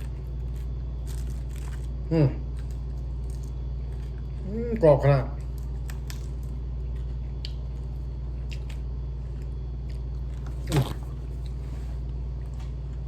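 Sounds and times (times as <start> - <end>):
person chewing crunchy food: 0.0 - 13.0
steady low hum: 0.0 - 13.0.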